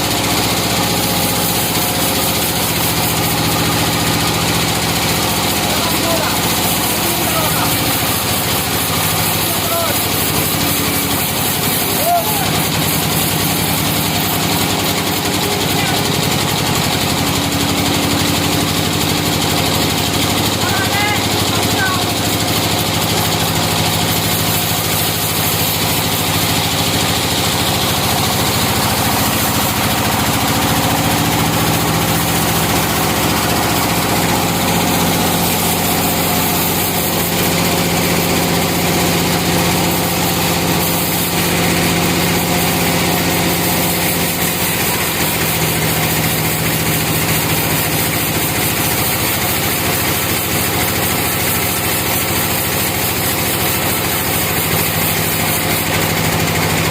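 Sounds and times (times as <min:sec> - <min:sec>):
sawmill engine droning: 0:00.0 - 0:56.9.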